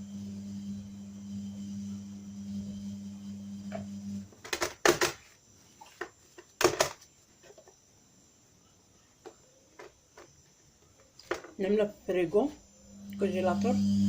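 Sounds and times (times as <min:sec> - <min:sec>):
low steady hum: 0:00.0 - 0:04.6, 0:05.2 - 0:14.0.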